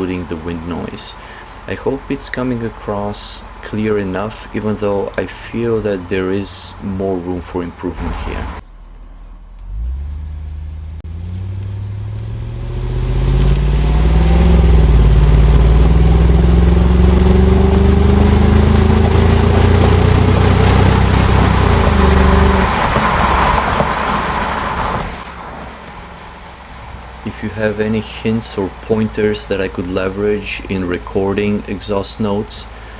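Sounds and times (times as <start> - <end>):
car exhaust accelerating: 0.0 - 32.9.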